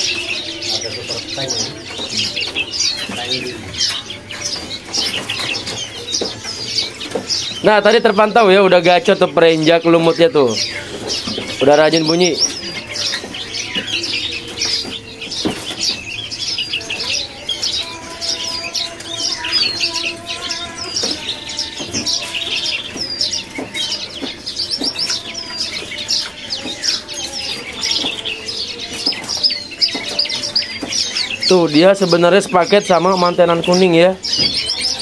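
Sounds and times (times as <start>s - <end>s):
bird singing high chirps: 0.0s - 35.0s
birds calling and whistling: 0.0s - 35.0s.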